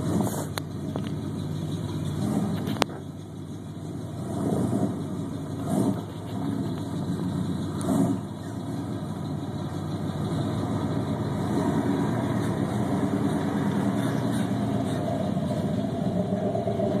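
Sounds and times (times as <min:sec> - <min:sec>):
truck engine running at low speed: 0:00.0 - 0:17.0.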